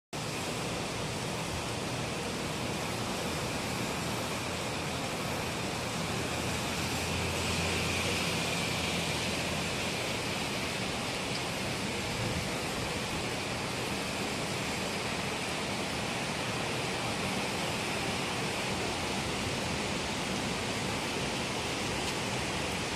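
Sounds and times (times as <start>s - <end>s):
steady rain falling: 0.2s - 22.9s.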